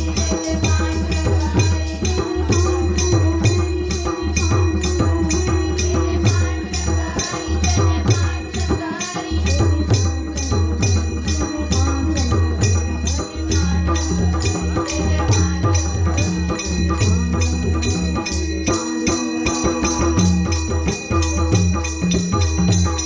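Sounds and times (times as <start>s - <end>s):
jingling small cymbals: 0.0s - 23.0s.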